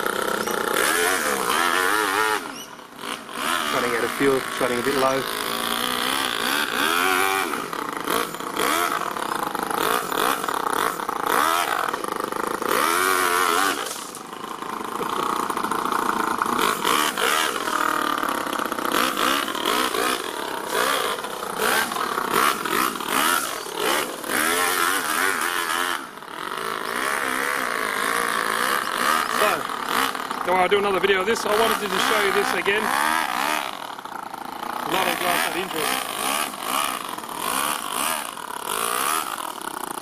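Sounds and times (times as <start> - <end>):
model engine revving: 0.0 - 40.0.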